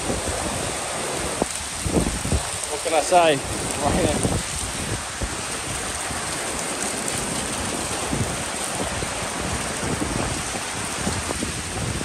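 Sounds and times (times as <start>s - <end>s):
heavy rain on a wet street: 0.0s - 12.0s.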